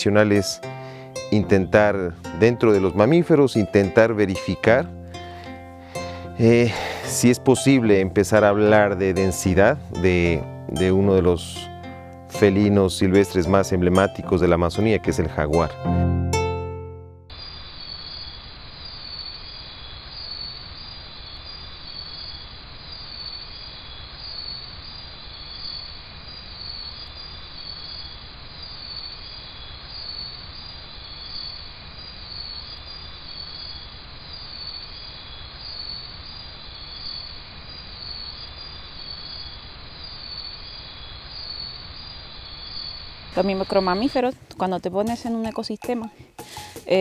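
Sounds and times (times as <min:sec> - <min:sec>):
insects trilling: 0:00.0 - 0:15.1, 0:17.3 - 0:47.0.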